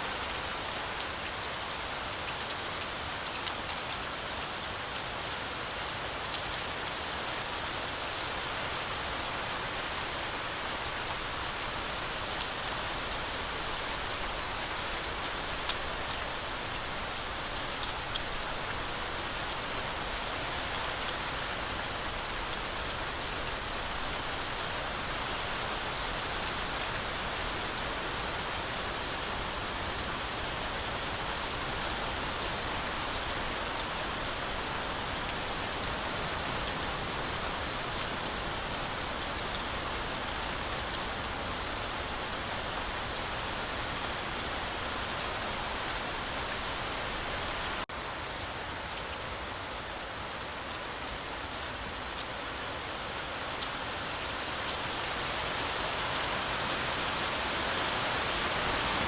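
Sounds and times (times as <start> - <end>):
heavy rain pattering on leaves: 0.0 - 59.0.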